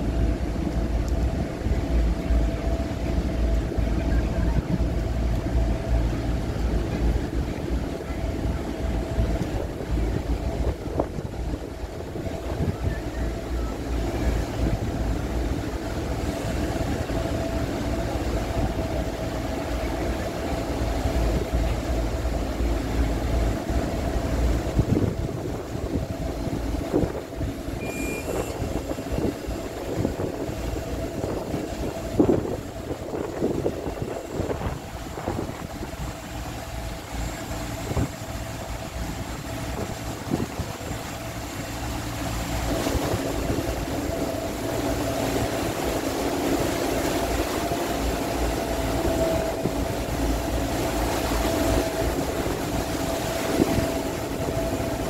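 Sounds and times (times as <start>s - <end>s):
churning water: 0.0s - 55.0s
ferry engines rumbling: 0.0s - 55.0s.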